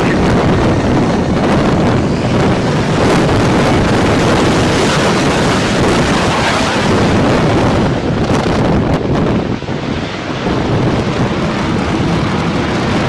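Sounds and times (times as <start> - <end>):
jet engine roaring: 0.0 - 13.0
wind buffeting microphone: 0.0 - 13.0.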